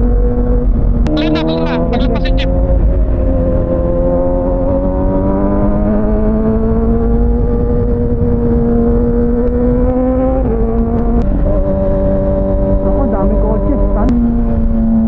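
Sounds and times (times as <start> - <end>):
low wind rumble: 0.0 - 15.0
motorcycle engine accelerating: 0.0 - 15.0.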